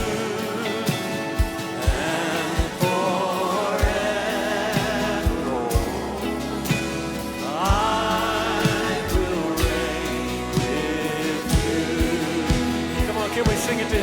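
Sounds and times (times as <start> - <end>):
people singing: 0.0 - 14.0
worship band playing: 0.0 - 14.0.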